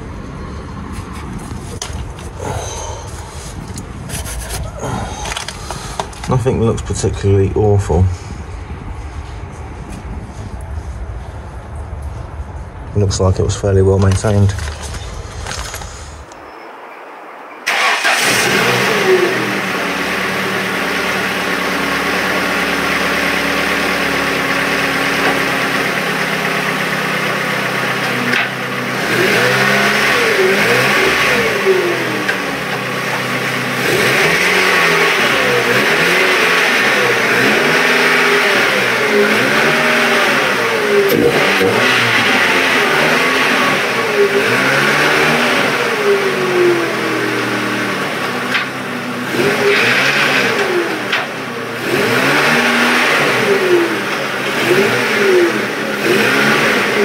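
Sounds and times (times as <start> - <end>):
car engine idling and revving: 0.0 - 16.5, 17.7 - 57.0.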